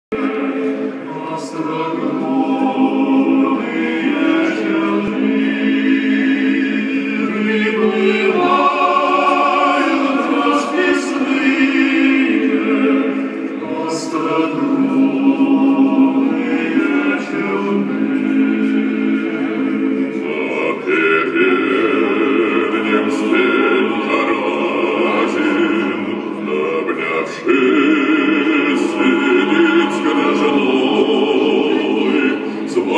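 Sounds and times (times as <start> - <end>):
choral voices over loudspeaker: 0.1 - 32.9.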